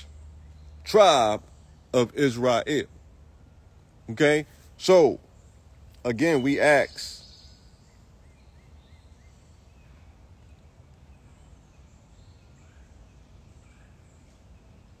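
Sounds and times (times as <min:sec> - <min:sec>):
distant birds chirping: 0:00.0 - 0:15.0.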